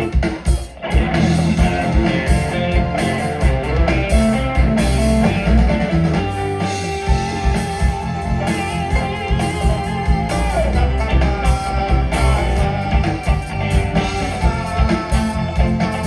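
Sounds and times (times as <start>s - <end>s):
live rock band playing: 0.0s - 16.0s
sustained lead guitar line: 0.0s - 16.0s.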